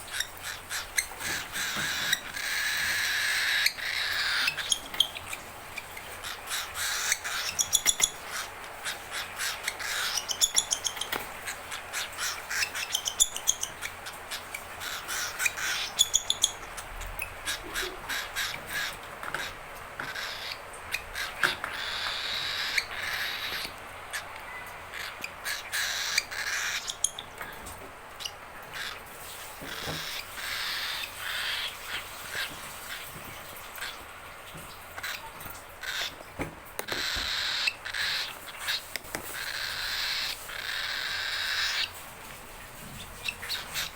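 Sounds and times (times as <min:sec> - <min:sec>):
cockatiel chick raspy begging calls: 0:00.1 - 0:16.8, 0:17.4 - 0:27.2, 0:28.2 - 0:29.1, 0:29.7 - 0:33.0, 0:35.8 - 0:36.2, 0:36.9 - 0:41.9.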